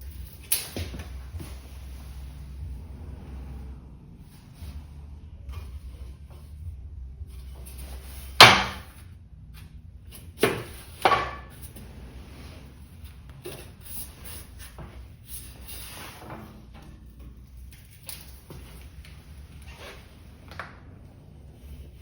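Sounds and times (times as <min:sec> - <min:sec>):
faint shuffling and rubbing: 0:00.0 - 0:08.4, 0:11.6 - 0:22.0.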